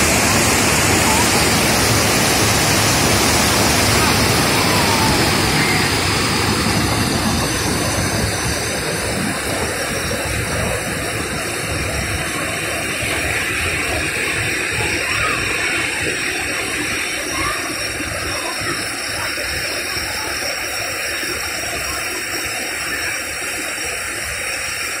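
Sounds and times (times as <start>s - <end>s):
waterfall rushing over rocks: 0.0s - 25.0s.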